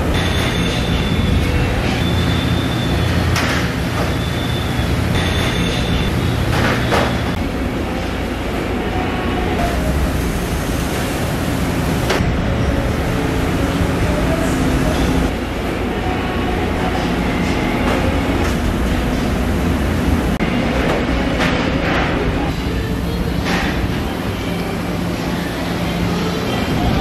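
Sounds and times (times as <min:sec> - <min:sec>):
factory machinery rumbling: 0:00.0 - 0:27.0.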